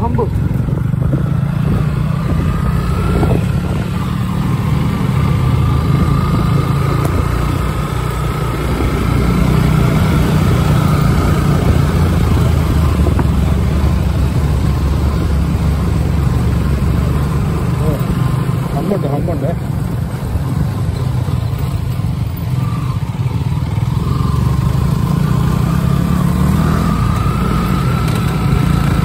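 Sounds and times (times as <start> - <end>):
another motorcycle ahead: 0.0 - 29.0
motorcycle engine running: 0.0 - 29.0.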